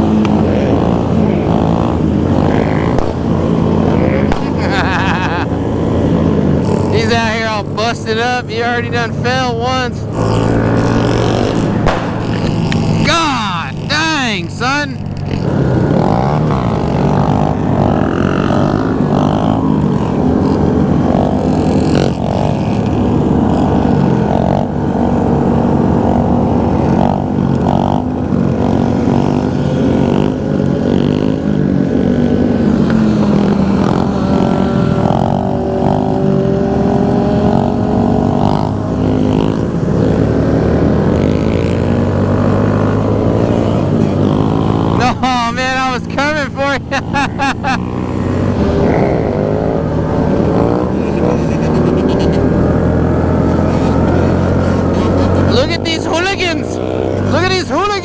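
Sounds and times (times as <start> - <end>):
motorcycle engines running: 0.0 - 58.0.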